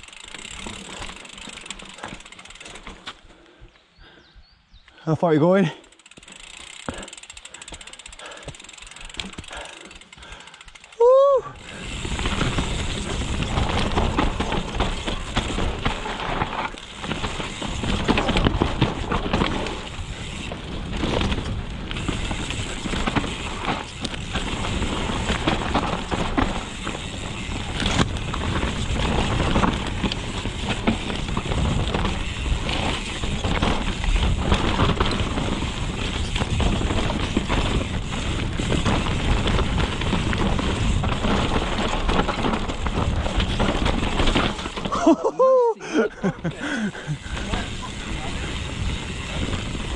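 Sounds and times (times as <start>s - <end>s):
bike clattering over bumps: 0.0s - 3.1s, 5.9s - 10.9s, 11.6s - 45.2s, 46.6s - 49.9s
tyre noise: 6.0s - 45.7s, 46.5s - 49.9s.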